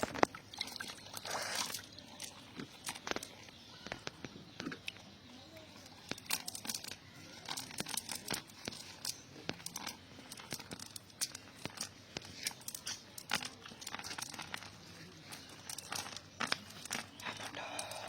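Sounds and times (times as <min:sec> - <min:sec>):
crackling and rustling: 0:00.0 - 0:18.0.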